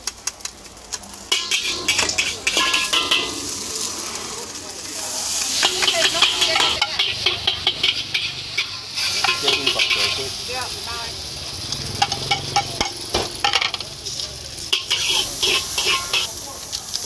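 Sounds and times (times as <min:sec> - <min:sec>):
noodles sizzling in a wok: 0:00.2 - 0:17.0
metal spatula scraping wok: 0:01.3 - 0:16.4.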